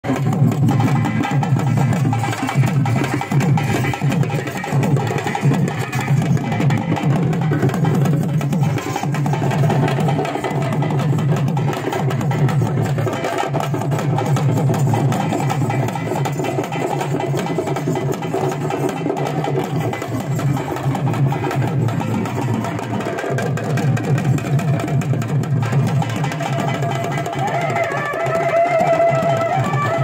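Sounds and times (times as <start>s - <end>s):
frame drums beaten with sticks: 0.0s - 30.0s.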